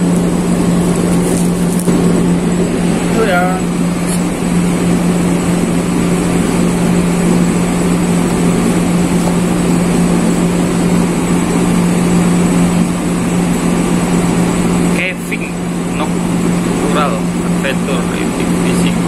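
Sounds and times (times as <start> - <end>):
mechanical drone with low hum: 0.0 - 19.0.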